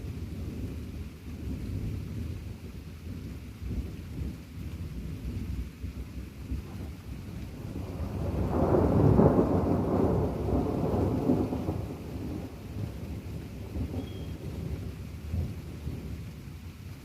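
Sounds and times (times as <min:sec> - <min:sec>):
thunder rumbling: 0:00.0 - 0:16.7
steady rain: 0:00.0 - 0:17.0.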